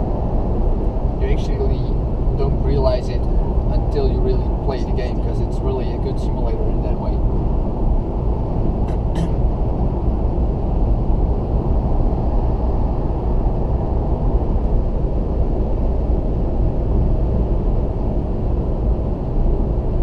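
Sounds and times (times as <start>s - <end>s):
car interior road drone: 0.0s - 20.0s.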